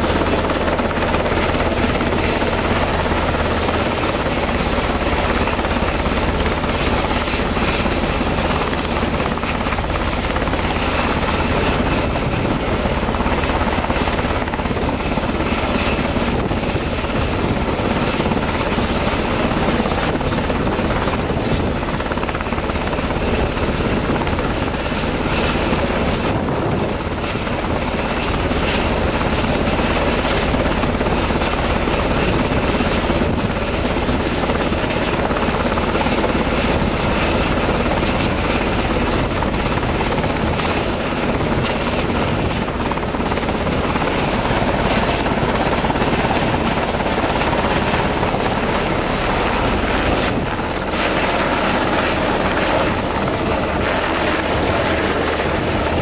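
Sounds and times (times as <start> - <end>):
helicopter hovering overhead: 0.0 - 56.0.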